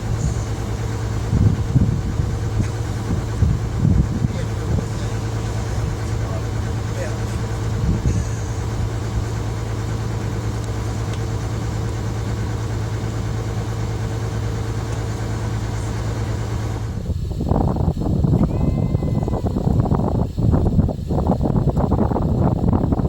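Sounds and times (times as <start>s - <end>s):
engine idling: 0.0s - 23.0s
wind buffeting microphone: 0.0s - 23.0s.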